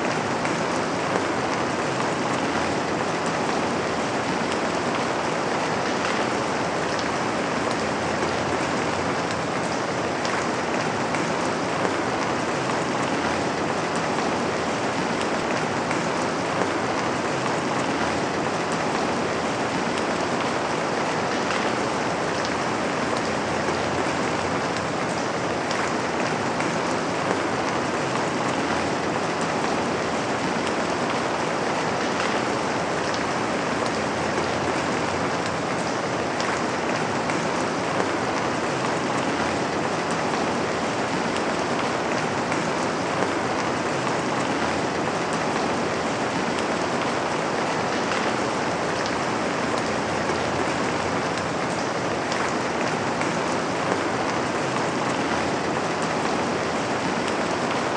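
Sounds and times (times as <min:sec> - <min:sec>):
rain on a window: 0:00.0 - 0:57.9.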